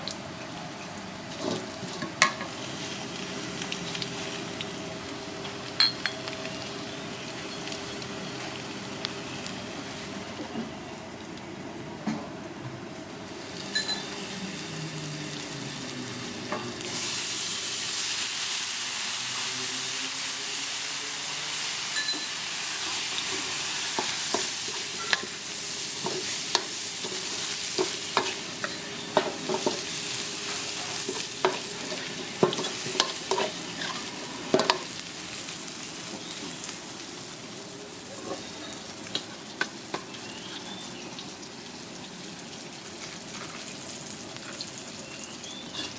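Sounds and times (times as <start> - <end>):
food sizzling in hot oil: 1.3 - 10.3, 13.2 - 45.9.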